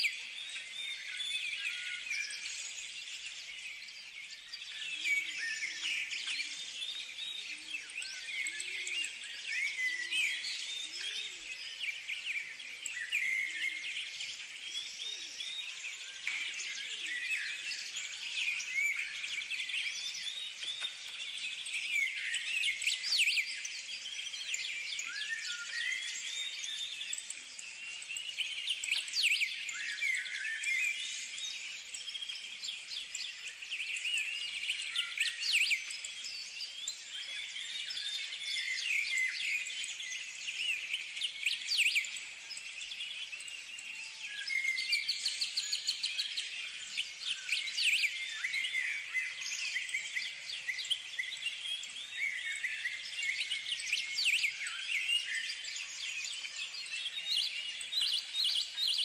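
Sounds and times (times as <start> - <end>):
birds chirping and whistling: 0.0 - 59.0.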